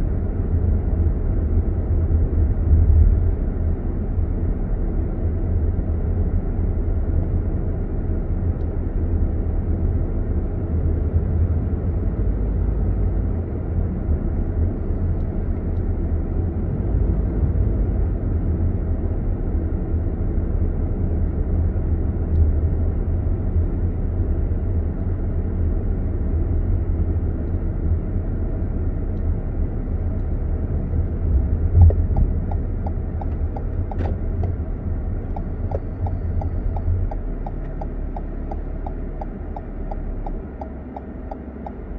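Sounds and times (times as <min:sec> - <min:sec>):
road and engine rumble: 0:00.0 - 0:41.9.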